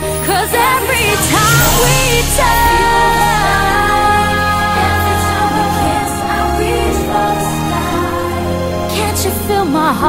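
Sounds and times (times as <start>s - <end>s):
eurodance pop song: 0.0s - 10.0s.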